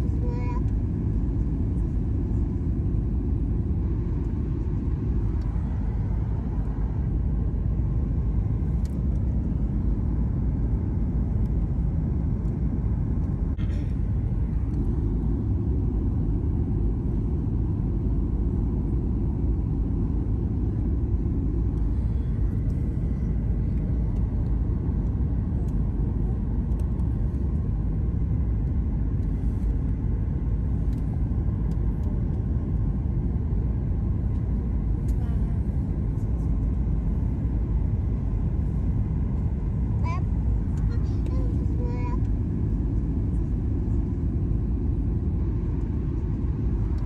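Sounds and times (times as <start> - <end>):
steady low rumble: 0.0 - 47.0.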